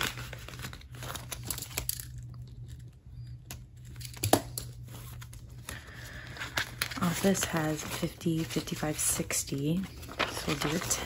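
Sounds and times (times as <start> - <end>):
paper banknotes rustling: 0.0 - 2.0, 3.8 - 11.0
faint low hum: 0.0 - 11.0.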